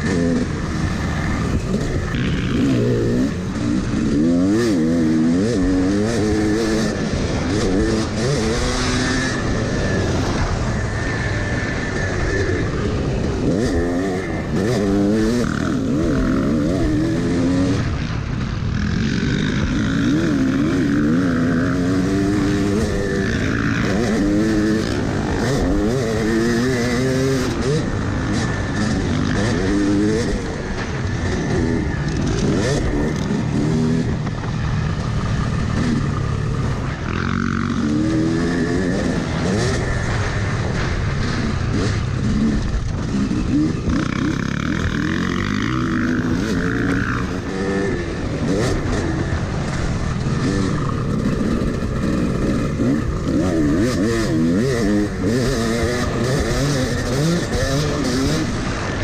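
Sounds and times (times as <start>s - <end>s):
two-stroke dirt bike engine revving: 0.0s - 59.0s.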